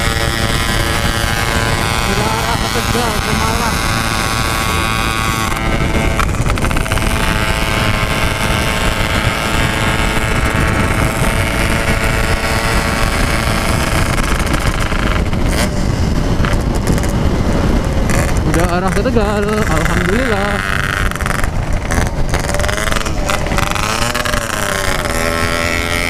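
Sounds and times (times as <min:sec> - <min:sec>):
two-stroke motorcycle engine running: 0:00.0 - 0:26.0
wind rush on microphone: 0:00.0 - 0:26.0.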